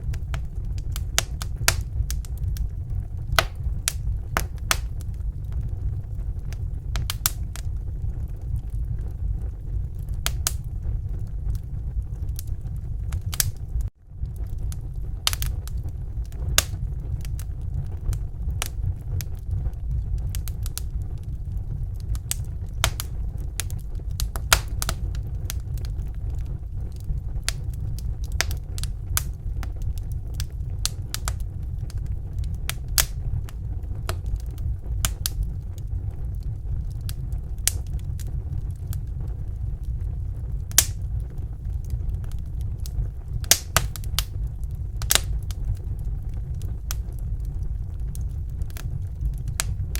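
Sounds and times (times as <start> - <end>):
low rumble: 0.0 - 49.9
wood fire crackling: 0.0 - 49.9.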